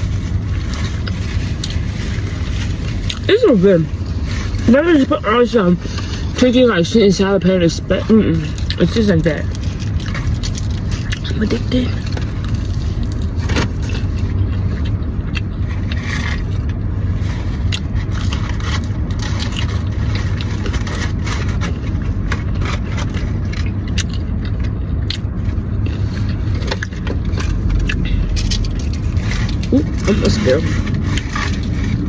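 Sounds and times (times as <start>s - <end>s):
food packaging rustling: 0.0s - 24.3s, 25.2s - 32.0s
road rumble inside a car: 0.0s - 32.0s.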